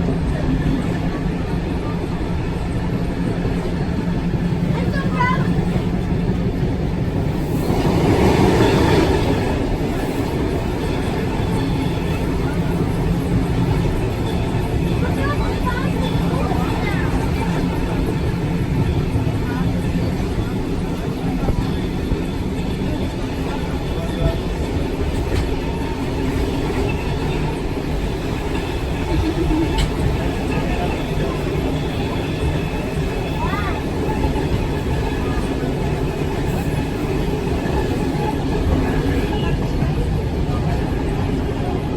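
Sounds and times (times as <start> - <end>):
train carriage noise: 0.0 - 41.9
train wheels rumbling on rails: 0.0 - 41.9.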